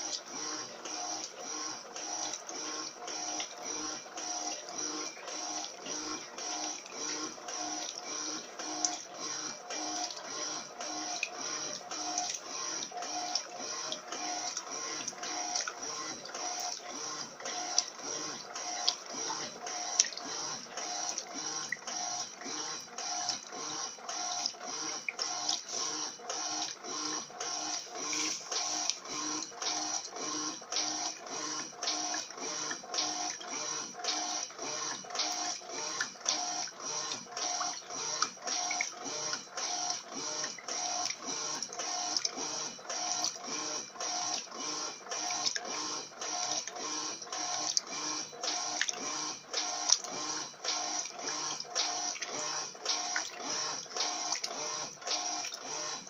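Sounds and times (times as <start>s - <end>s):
motor whine: 0.0s - 56.0s
washing machine agitating: 0.0s - 56.0s.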